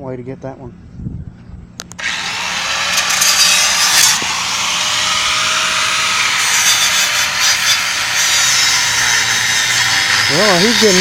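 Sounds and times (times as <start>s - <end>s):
power grinder grinding metal: 2.0s - 11.0s.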